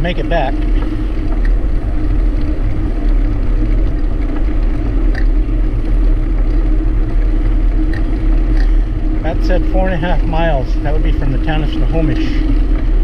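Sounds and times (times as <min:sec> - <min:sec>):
constant hum: 0:00.0 - 0:13.0
wind rumbling on microphone: 0:00.0 - 0:13.0.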